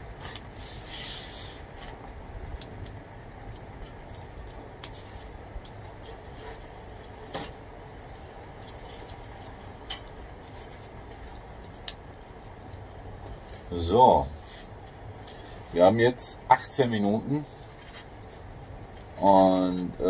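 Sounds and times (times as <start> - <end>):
fire crackles and pops: 0.0 - 20.0
wood fire rushing: 0.0 - 20.0.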